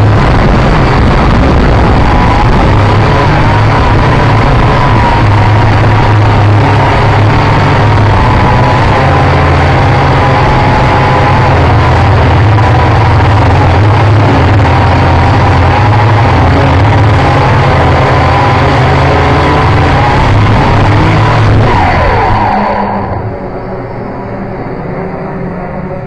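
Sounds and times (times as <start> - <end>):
rush of air: 0.0 - 24.5
drone motors whining: 0.0 - 26.0.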